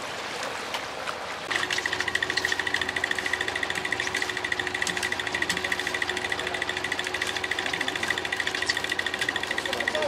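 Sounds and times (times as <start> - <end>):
boat engine hum: 0.0 - 10.0.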